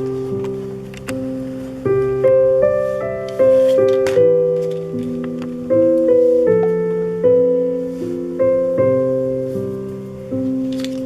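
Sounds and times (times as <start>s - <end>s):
gentle piano-like keyboard tune: 0.0s - 11.0s.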